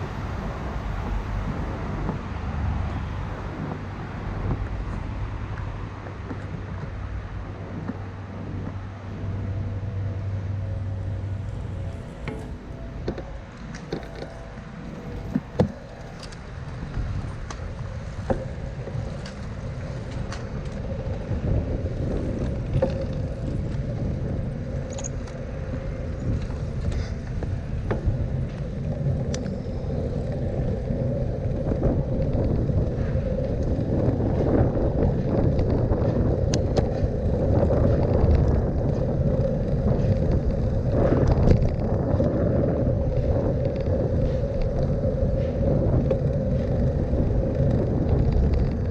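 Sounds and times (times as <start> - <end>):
bicycle rumble and rattle: 0.0 - 48.9
steady hum: 0.0 - 48.9.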